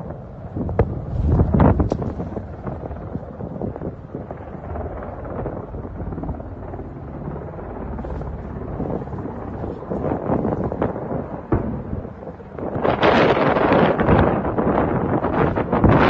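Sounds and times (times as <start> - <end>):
low rumbling noise: 0.0 - 16.0
wind buffeting microphone: 0.0 - 16.0.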